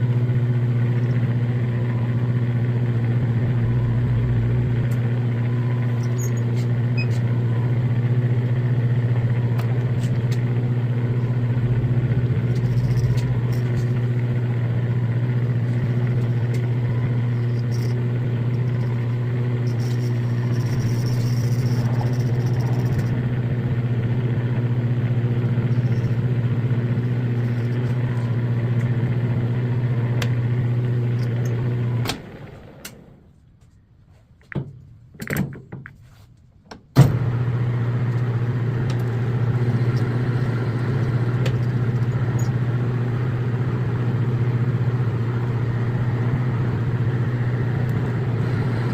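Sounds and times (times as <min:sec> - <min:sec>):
lathe motor humming: 0:00.0 - 0:33.2, 0:37.1 - 0:48.9.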